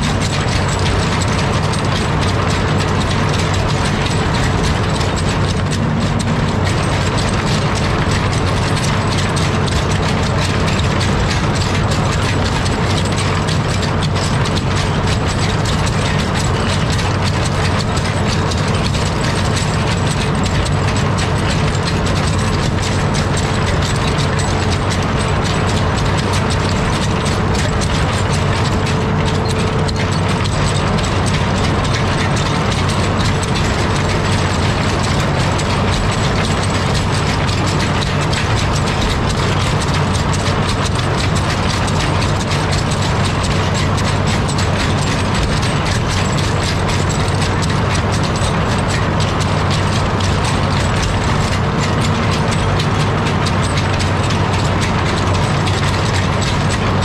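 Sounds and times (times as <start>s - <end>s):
diesel engine humming: 0.0s - 57.0s
track chains clattering: 0.0s - 57.0s.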